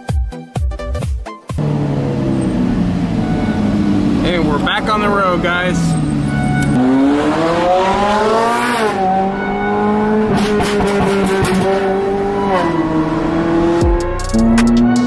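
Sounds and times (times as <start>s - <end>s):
sports car engine accelerating: 1.6s - 15.0s.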